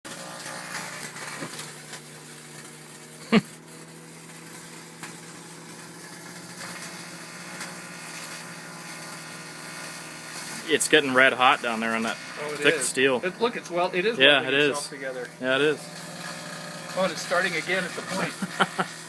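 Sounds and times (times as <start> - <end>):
crackling snaps of arcing: 0.1 - 19.0
microwave oven hum: 0.1 - 19.0.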